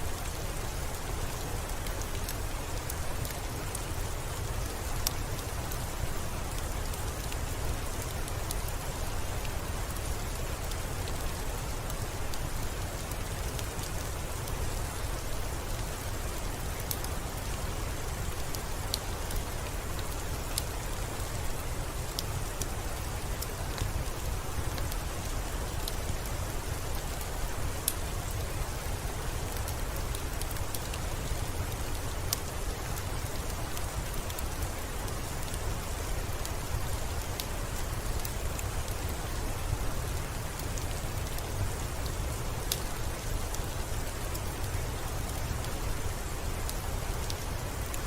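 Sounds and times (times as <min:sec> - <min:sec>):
steady rain: 0:00.0 - 0:48.0
wood fire crackling: 0:00.2 - 0:48.0.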